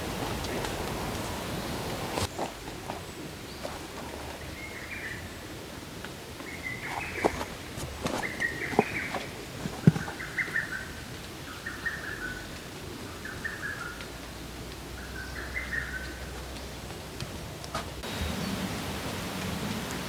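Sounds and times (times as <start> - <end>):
songbird chirping: 0.0 - 16.7.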